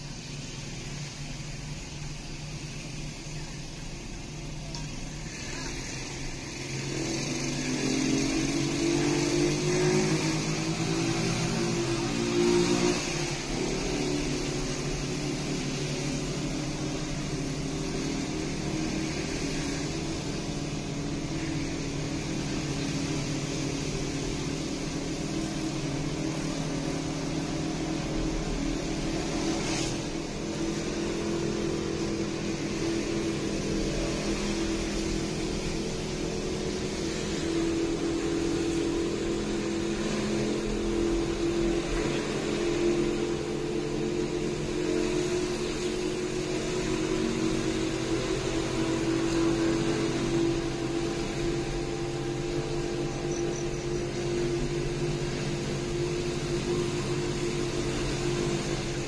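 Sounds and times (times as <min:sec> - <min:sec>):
car engine drone: 0:00.0 - 0:59.0
road noise: 0:00.0 - 0:59.0.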